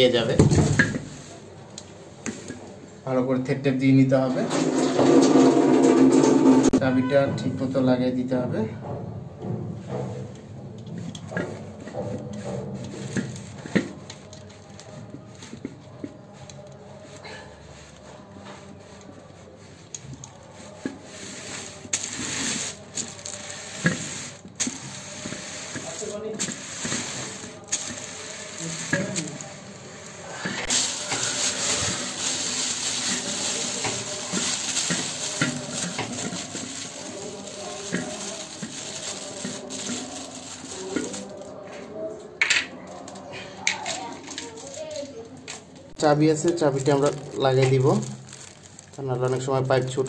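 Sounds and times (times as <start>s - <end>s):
plastic tubing rustling: 0.0s - 2.8s, 9.9s - 42.0s, 42.9s - 50.0s.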